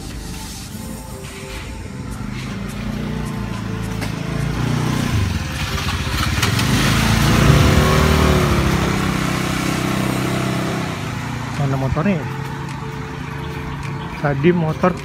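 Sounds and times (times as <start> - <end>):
motor scooter engines running: 0.0 - 15.0
scooter pulling away: 1.2 - 14.3.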